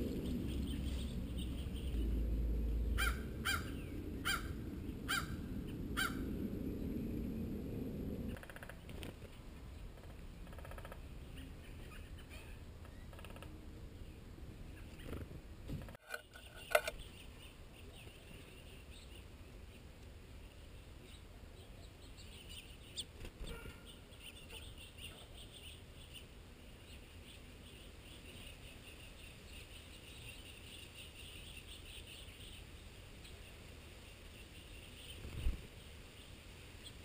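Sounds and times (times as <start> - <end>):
low outdoor background: 0.0 - 37.0
songbirds chipping and twittering: 0.0 - 37.0.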